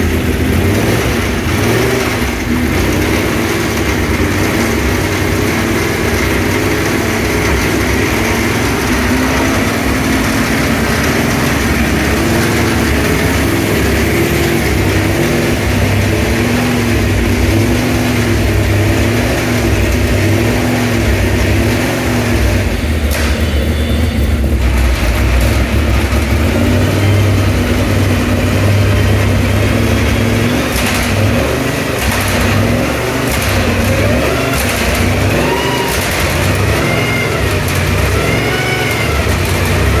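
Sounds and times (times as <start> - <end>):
race car engine idling: 0.0 - 40.0.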